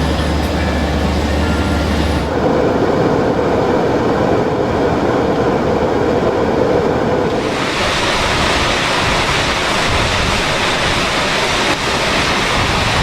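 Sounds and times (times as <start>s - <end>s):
factory machinery running: 0.0s - 13.0s.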